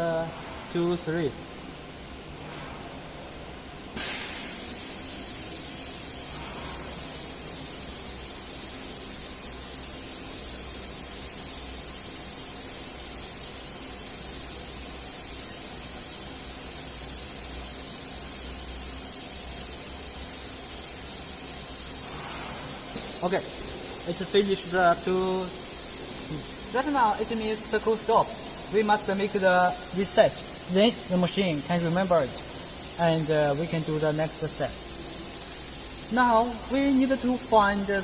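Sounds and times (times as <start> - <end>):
cnc router hiss: 4.0 - 38.0.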